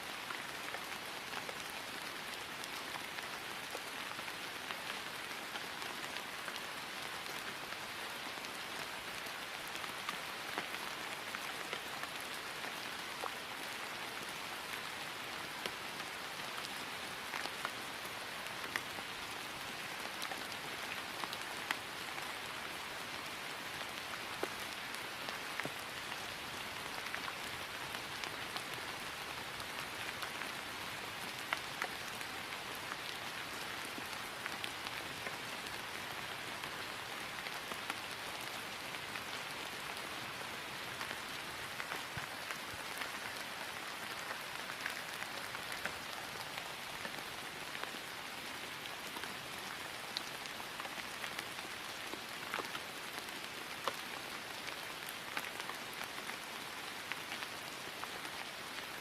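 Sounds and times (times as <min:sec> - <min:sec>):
rain falling on grass: 0:00.0 - 0:59.0.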